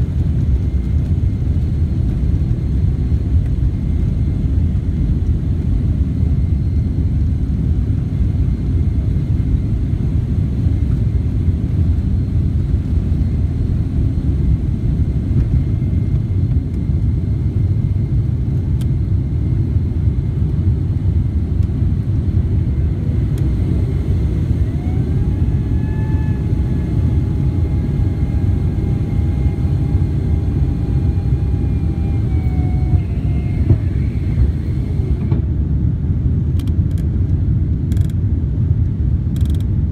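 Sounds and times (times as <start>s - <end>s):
deep rumble of engines and airflow: 0.0s - 39.9s
engine whine: 0.0s - 39.9s.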